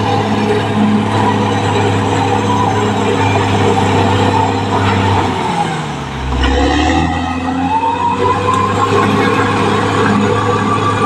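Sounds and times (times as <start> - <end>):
bulldozer diesel engine: 0.0 - 11.0
whining tone gliding: 0.0 - 11.0.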